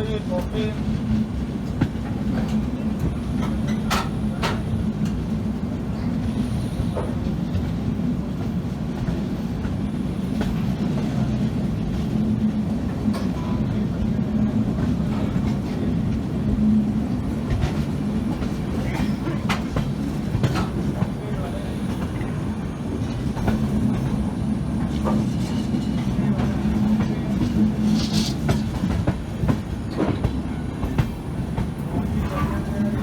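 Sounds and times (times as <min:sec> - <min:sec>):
train rumble and hum: 0:00.0 - 0:33.0.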